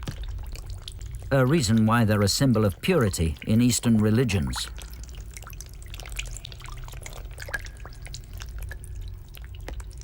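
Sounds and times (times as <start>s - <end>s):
low steady hum: 0.0s - 10.0s
water dripping: 0.0s - 10.0s.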